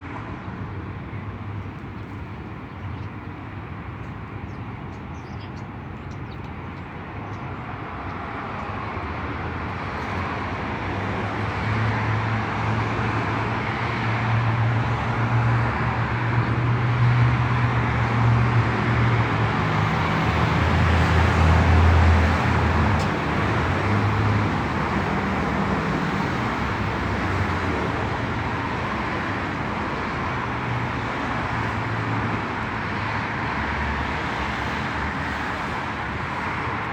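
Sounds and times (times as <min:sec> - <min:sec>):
passing cars: 0:00.0 - 0:36.9
vehicle engine hum: 0:00.5 - 0:36.9.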